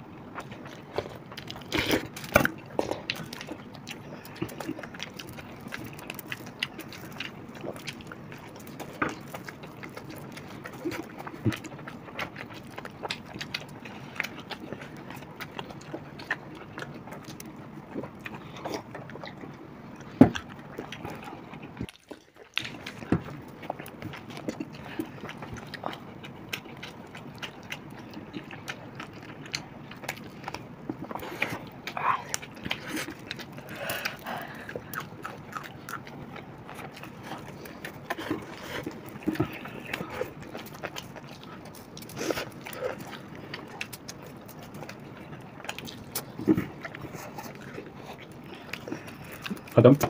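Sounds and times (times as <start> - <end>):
wet chewing: 0.0 - 50.0.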